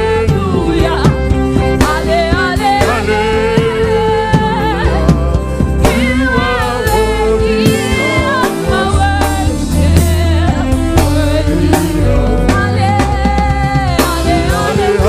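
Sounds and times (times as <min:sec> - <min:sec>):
bass: 0:00.0 - 0:15.0
drum kit: 0:00.0 - 0:15.0
gospel choir singing: 0:00.0 - 0:15.0.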